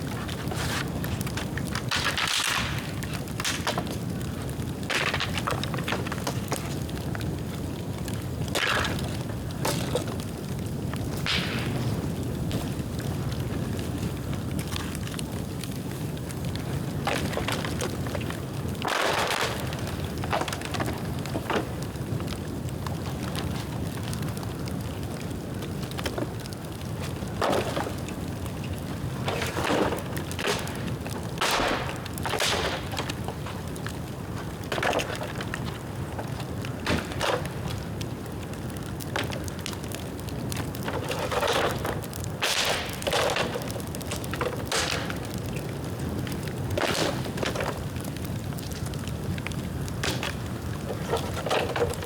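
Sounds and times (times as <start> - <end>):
bamboo crackling bursts: 0.0 - 52.0
bonfire flame rushing: 0.0 - 52.0.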